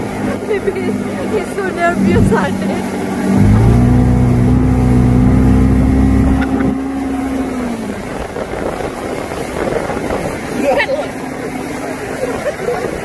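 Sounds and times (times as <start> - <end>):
motorboat engine humming: 0.0 - 13.0
water rushing: 0.0 - 13.0.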